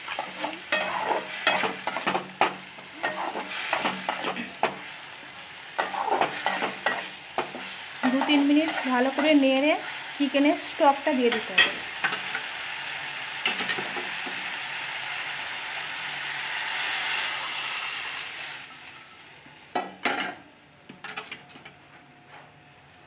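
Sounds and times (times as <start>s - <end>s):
chicken sizzling in a wok: 0.0s - 21.8s.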